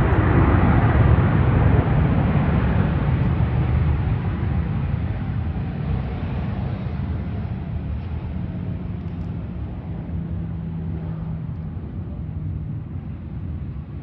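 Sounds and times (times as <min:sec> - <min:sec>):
light aircraft engine running: 0:00.0 - 0:14.0.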